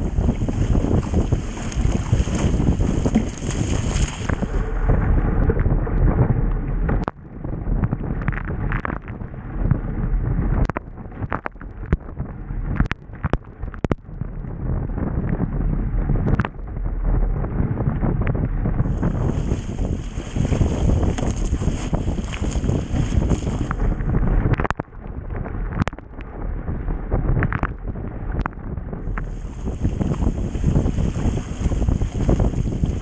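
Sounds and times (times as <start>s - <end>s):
water rushing along hull: 0.0s - 33.0s
wind buffeting microphone: 0.0s - 33.0s.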